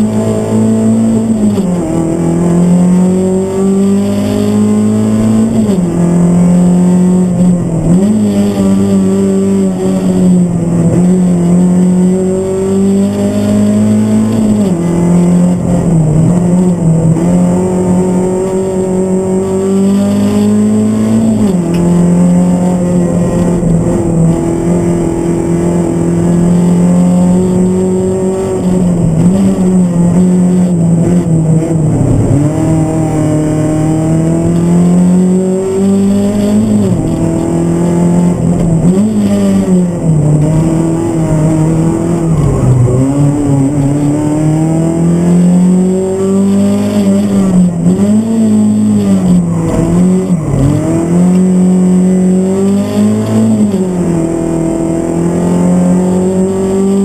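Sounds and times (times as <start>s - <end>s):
car engine revving through gears: 0.0s - 57.0s.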